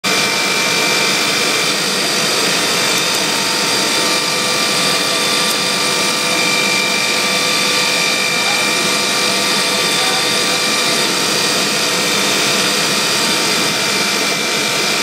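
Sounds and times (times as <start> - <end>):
high machine whine: 0.0 - 15.0.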